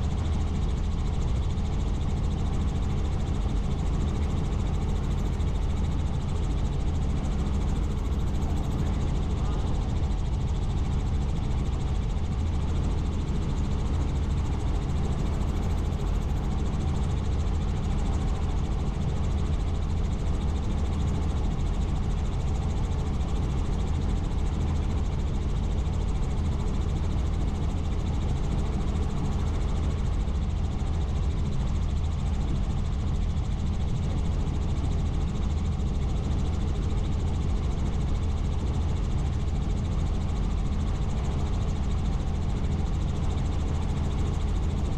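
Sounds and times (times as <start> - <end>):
helicopter rotor and engine drone: 0.0 - 44.9.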